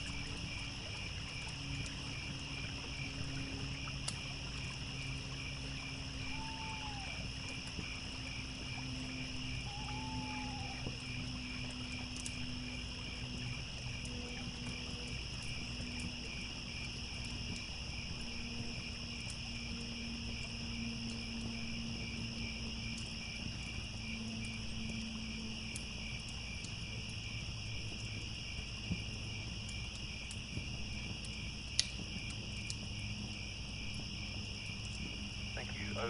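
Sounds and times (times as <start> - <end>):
campfire crackling: 0.0 - 36.0
crickets chirping: 0.0 - 36.0
low steady rumble: 0.0 - 36.0.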